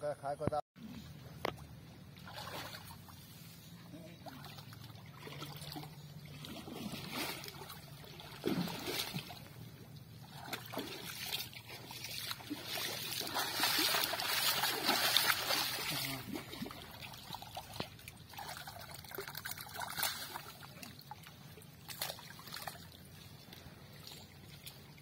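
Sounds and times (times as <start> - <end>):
pond water splashing: 0.8 - 25.0.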